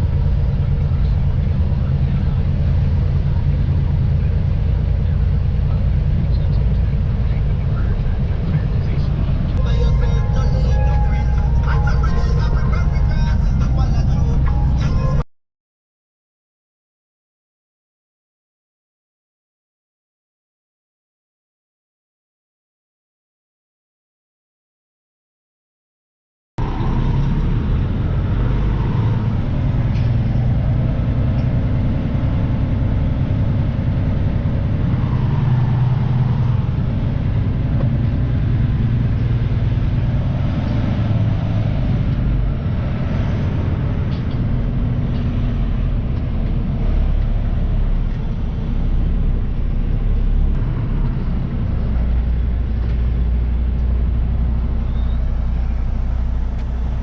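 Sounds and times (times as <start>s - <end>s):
road noise: 0.0s - 15.3s, 26.6s - 57.0s
truck engine drone: 0.0s - 15.3s, 26.6s - 57.0s.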